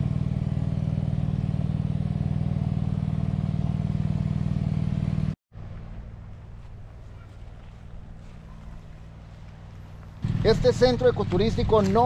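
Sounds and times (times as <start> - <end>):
pump droning: 0.0 - 12.0.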